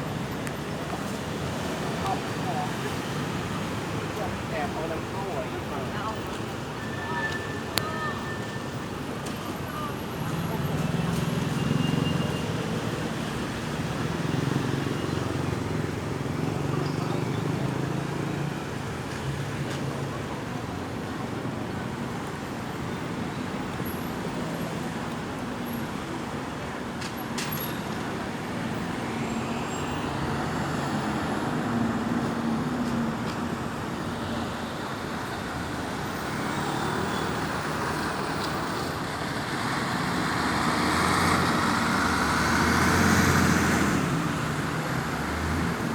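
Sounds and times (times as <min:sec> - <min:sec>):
passing vehicles: 0:00.0 - 0:45.9.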